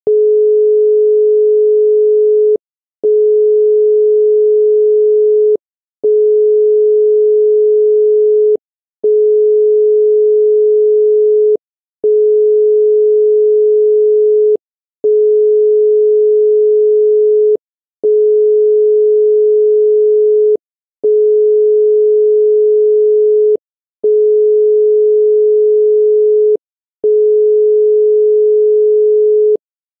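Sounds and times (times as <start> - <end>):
telephone number unobtainable tone: 0.1 - 29.6.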